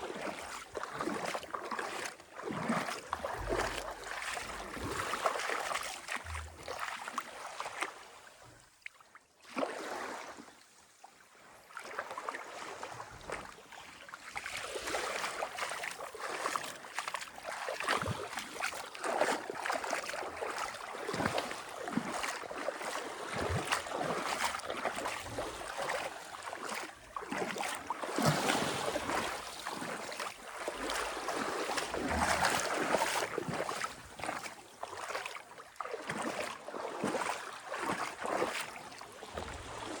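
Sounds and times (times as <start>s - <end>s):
sea water lapping and splashing: 0.0s - 40.0s.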